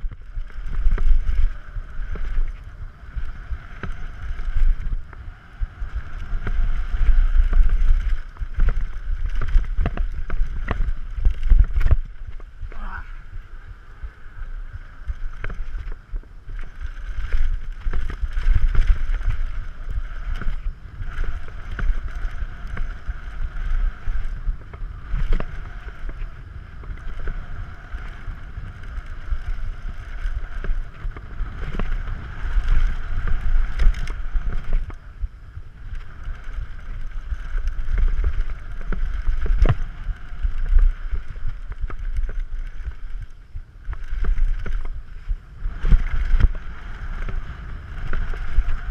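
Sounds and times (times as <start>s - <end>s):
bike knocks and rattles: 0.0s - 13.0s, 14.8s - 48.9s
wind buffeting microphone: 0.0s - 48.9s.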